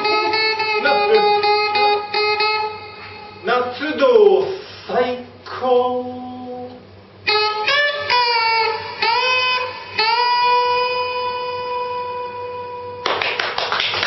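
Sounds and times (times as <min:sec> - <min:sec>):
electric guitar pitch bending: 0:00.0 - 0:04.2, 0:06.1 - 0:13.2.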